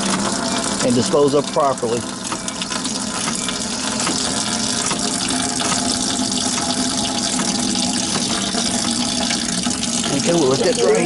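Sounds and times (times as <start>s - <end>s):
liquid stream splashing into bucket: 0.0s - 10.7s.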